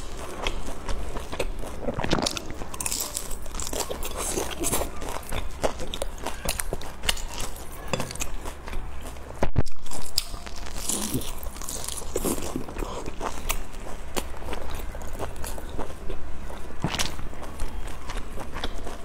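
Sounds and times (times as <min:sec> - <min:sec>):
crunching crisp dumplings: 0:00.0 - 0:19.0.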